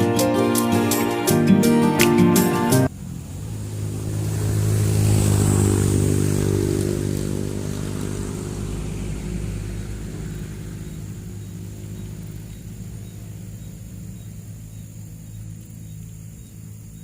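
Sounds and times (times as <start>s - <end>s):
vehicle engine passing by: 2.2s - 16.9s.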